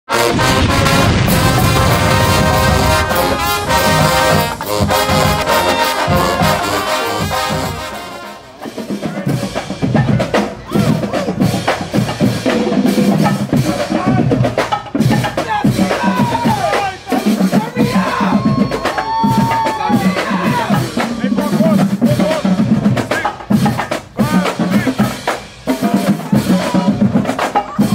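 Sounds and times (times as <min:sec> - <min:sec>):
marching band brass playing: 0:00.0 - 0:27.9
drumline sharp drum hits: 0:00.1 - 0:27.9.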